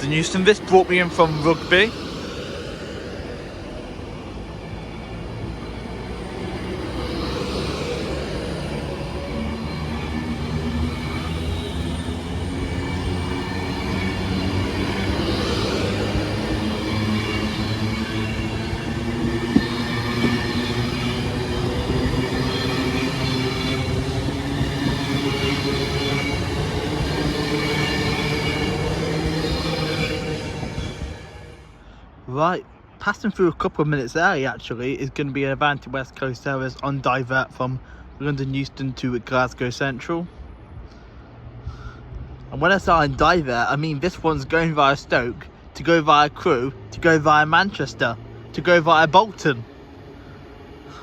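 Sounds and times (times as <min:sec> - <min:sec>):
electric train rumbling: 0:00.0 - 0:32.2, 0:37.2 - 0:51.0
faint train whine: 0:00.0 - 0:51.0.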